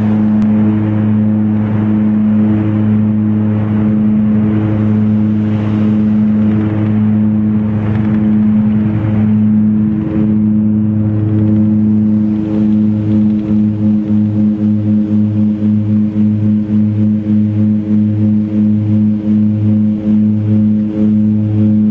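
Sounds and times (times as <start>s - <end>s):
propeller engine drone in cabin: 0.0s - 21.9s
rush of air: 0.0s - 21.9s.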